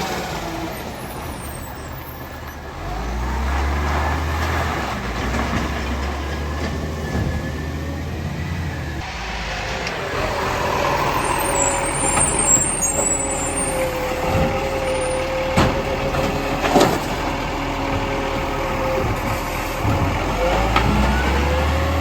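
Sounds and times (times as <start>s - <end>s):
garbage truck whine: 0.0s - 22.0s.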